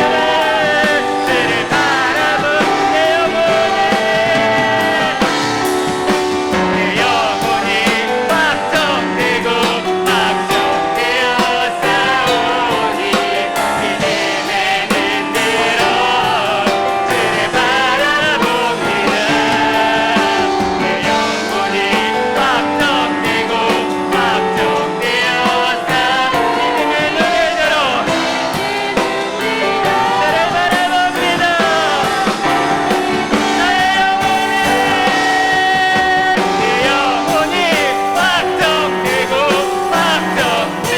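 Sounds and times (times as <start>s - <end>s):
drum hits: 0.0s - 40.9s
group singing in unison: 0.0s - 40.9s
piano: 0.0s - 40.9s.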